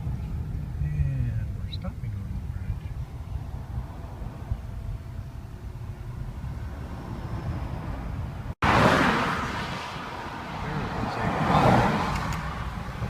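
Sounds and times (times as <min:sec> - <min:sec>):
vehicle road noise: 0:00.0 - 0:13.0.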